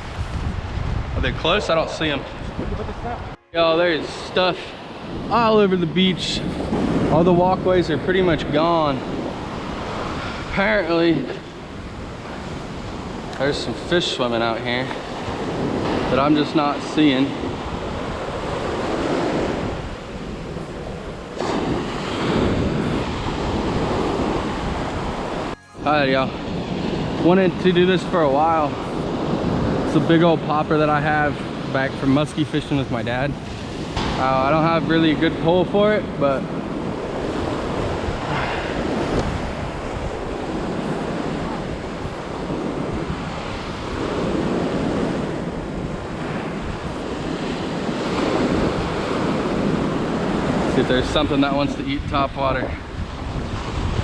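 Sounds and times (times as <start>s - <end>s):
wind buffeting microphone: 0.0s - 3.4s, 4.0s - 54.0s
surf breaking on beach: 0.0s - 54.0s.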